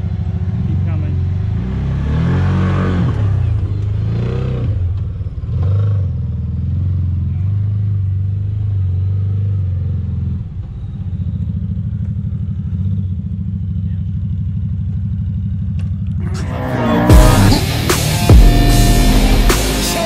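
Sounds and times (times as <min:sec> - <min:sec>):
engine revving and idling: 0:00.0 - 0:20.0.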